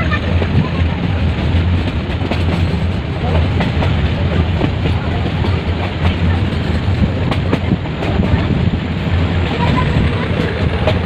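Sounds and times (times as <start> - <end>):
train rumbling: 0.0 - 11.0
wheels clattering on rails: 0.0 - 11.0.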